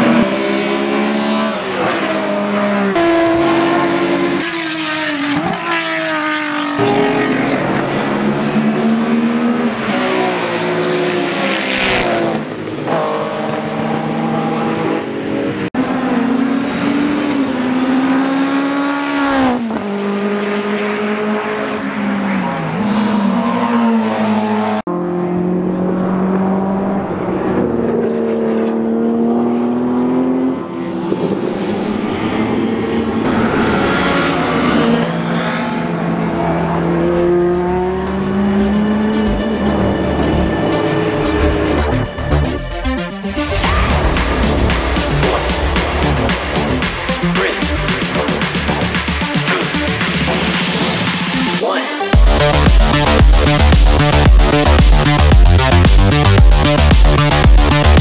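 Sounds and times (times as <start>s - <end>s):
racing cars passing at speed: 0.0s - 42.2s, 43.2s - 58.0s.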